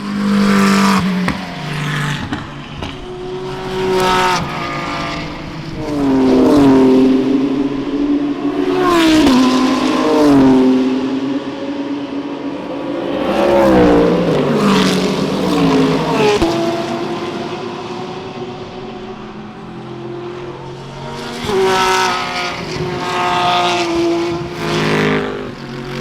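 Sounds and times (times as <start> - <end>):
engine downshifts: 0.0 - 26.0
race car engines passing: 0.0 - 26.0.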